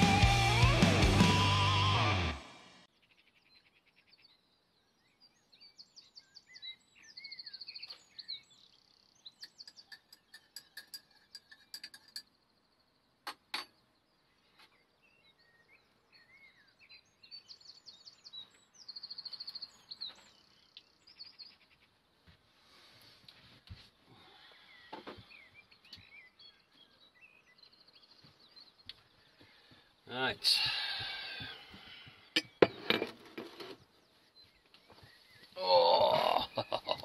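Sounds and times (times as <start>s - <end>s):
songbird chirping and trilling: 2.8s - 23.4s, 24.2s - 37.0s.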